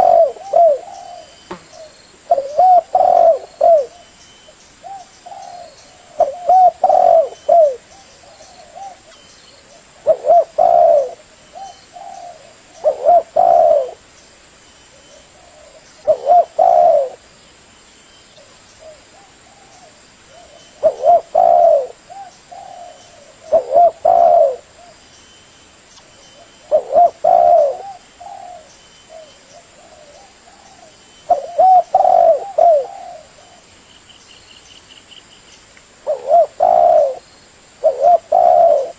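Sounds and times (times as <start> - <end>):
dove cooing: 0.0 - 4.2, 4.8 - 14.1, 14.9 - 17.3, 18.4 - 25.0, 26.2 - 33.7, 36.0 - 38.9.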